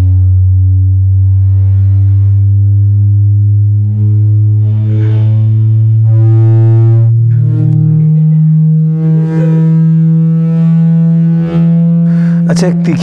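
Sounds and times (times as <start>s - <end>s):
loud music with held bass notes: 0.0s - 13.0s.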